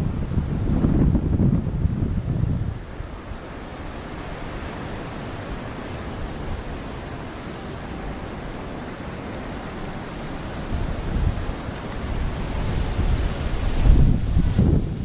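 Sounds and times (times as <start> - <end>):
rough sea: 0.0 - 15.0
strong wind rushing: 0.0 - 15.0.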